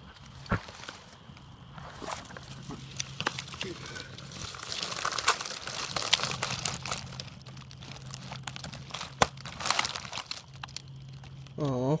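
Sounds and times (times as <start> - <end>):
dry leaves crinkling and crackling: 0.2 - 12.0.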